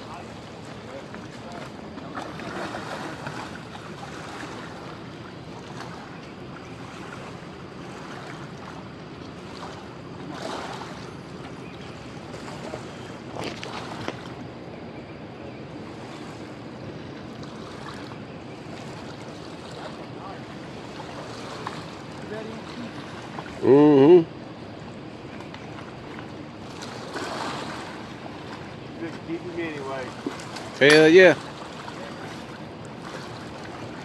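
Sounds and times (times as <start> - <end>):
river current rushing: 0.0 - 34.0.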